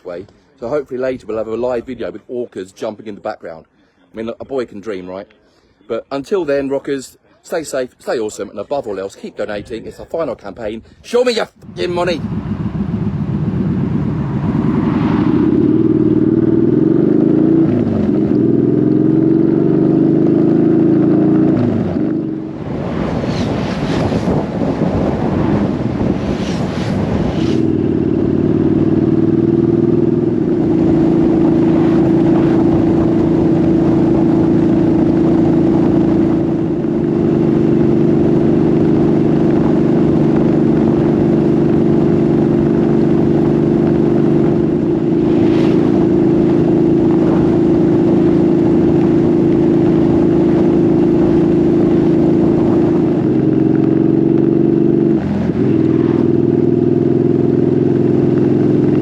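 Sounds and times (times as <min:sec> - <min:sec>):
motorcycle engine cruising: 0:11.7 - 0:59.0.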